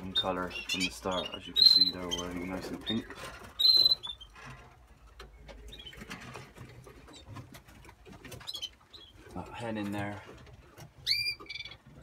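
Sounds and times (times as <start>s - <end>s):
canary chirping: 0.0s - 12.0s.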